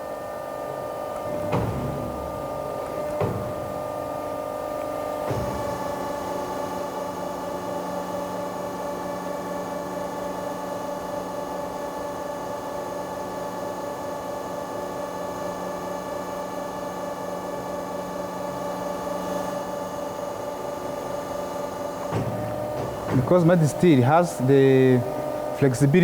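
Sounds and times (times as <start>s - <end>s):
plate bending machine humming: 0.0s - 26.0s.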